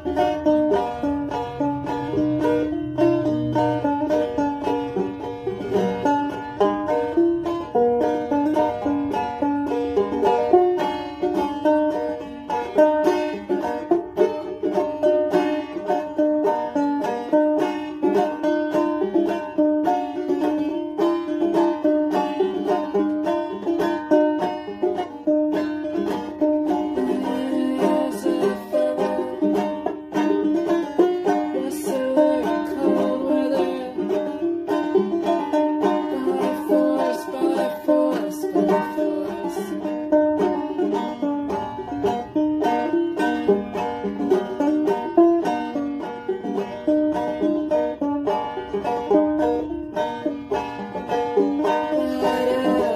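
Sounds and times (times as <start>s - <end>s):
banjo plucked notes: 0.0s - 52.9s.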